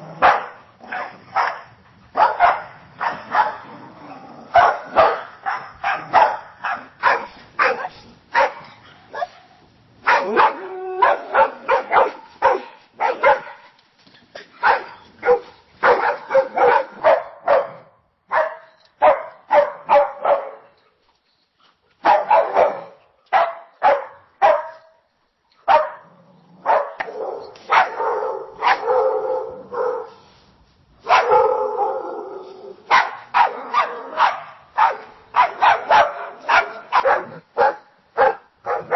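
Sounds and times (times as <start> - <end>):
dogs barking: 0.2 - 3.7, 4.5 - 13.8, 14.6 - 20.6, 22.0 - 24.8, 25.7 - 30.2, 31.0 - 38.9.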